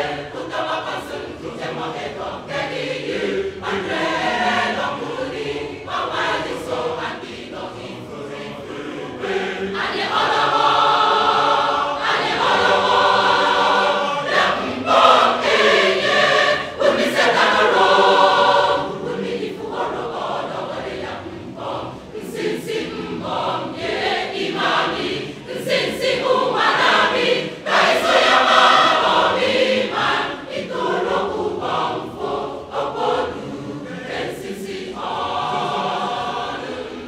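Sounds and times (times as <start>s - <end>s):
choir singing in harmony: 0.0s - 37.0s.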